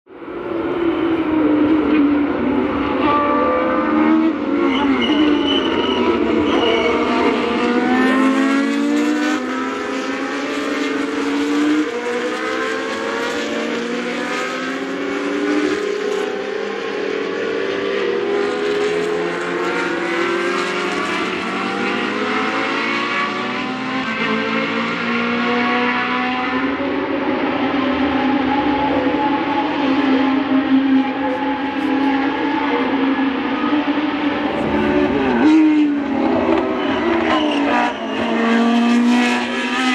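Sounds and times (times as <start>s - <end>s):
racing cars passing: 0.2s - 39.9s.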